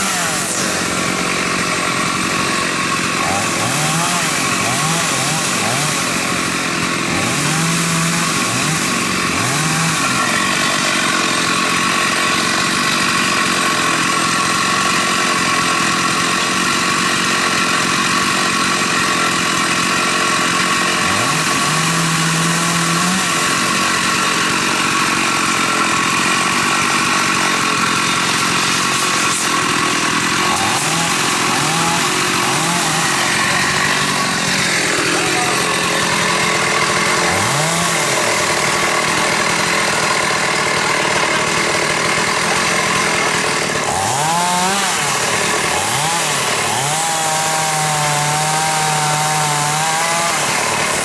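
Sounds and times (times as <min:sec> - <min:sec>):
chainsaw running: 0:00.0 - 0:51.0.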